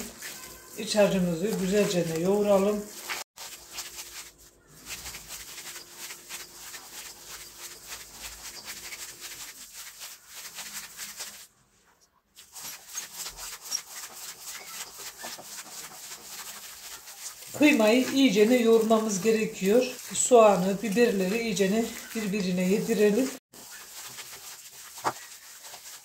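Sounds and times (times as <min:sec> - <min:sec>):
hands kneading meat in a bowl: 0:00.0 - 0:11.6, 0:12.4 - 0:26.0.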